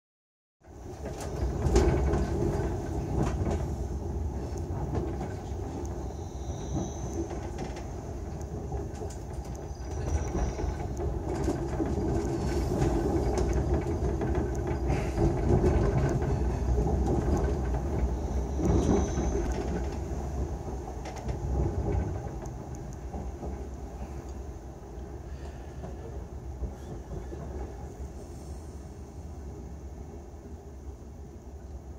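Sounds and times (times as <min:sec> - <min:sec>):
train wheels rumbling on track: 0:00.6 - 0:31.9.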